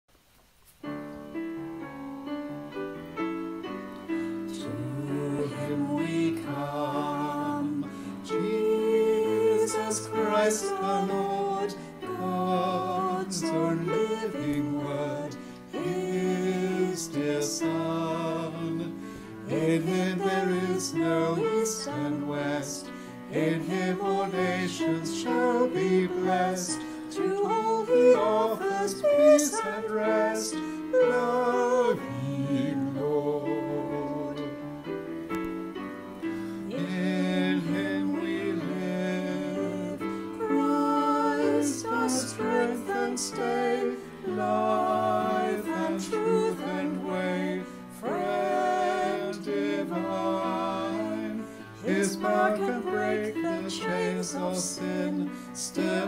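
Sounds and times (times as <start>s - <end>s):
grand piano: 0.1s - 56.0s
small group singing a hymn: 4.0s - 35.5s, 36.2s - 56.0s.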